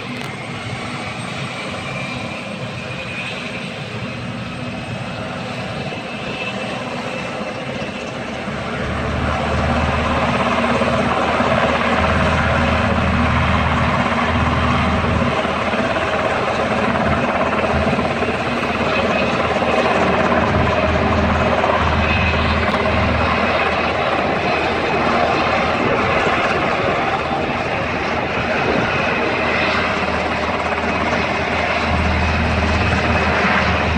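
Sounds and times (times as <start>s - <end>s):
helicopter rotor and engine: 0.0s - 33.9s.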